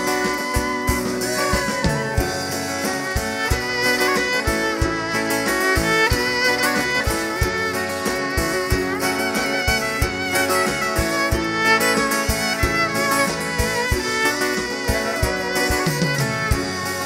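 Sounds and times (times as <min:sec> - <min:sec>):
percussion beat: 0:00.0 - 0:17.0
strummed acoustic guitar: 0:00.0 - 0:17.0
violin melody: 0:00.0 - 0:17.0.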